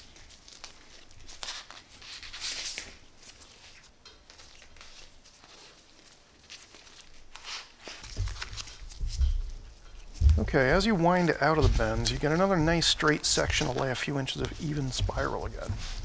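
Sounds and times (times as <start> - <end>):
handlebar tape rustling and peeling: 0.0 - 16.0.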